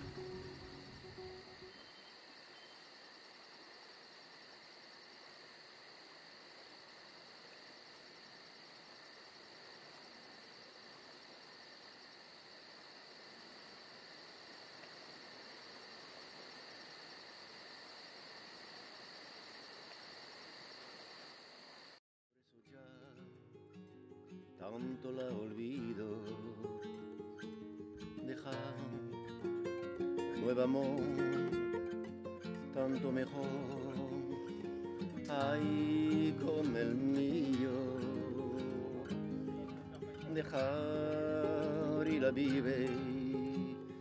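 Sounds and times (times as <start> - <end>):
crickets chirping: 0.0 - 22.0, 25.0 - 44.0.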